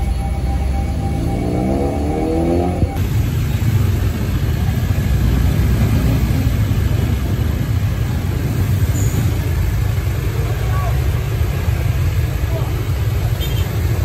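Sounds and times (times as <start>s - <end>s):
dump truck engine rumbling: 0.0s - 14.0s
motorcycle engines running: 0.0s - 14.0s.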